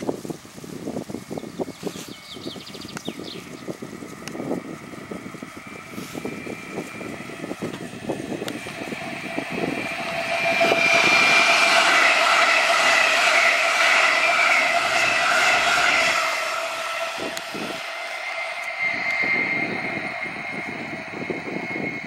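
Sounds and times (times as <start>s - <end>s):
electric train whine: 0.0s - 22.0s
wind buffeting microphone: 0.0s - 22.0s.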